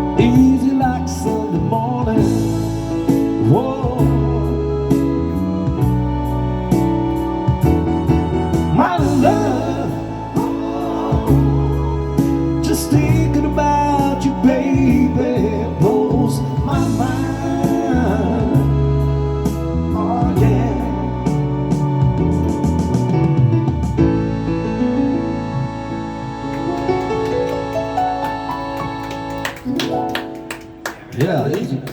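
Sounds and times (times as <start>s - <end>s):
bass and keyboard chords: 0.0s - 31.2s.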